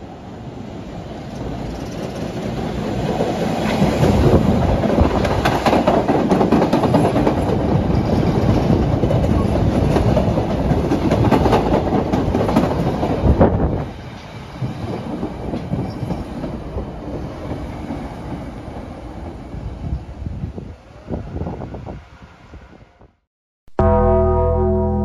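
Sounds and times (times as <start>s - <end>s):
train passing with wheel clatter: 0.0s - 23.2s.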